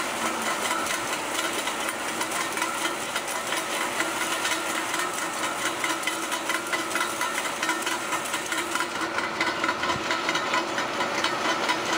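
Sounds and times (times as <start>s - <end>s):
tractor diesel engine drone: 0.0s - 11.9s.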